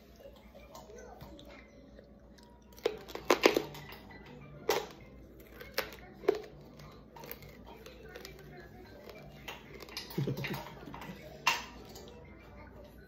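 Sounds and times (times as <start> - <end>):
crunchy chewing: 0.2 - 12.3.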